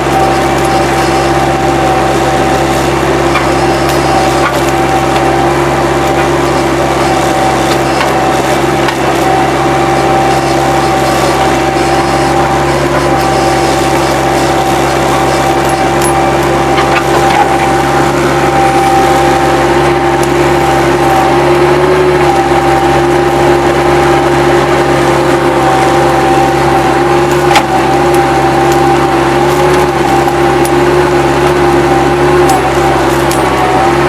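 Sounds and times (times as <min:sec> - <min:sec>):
diesel engine drone with whine: 0:00.0 - 0:34.0.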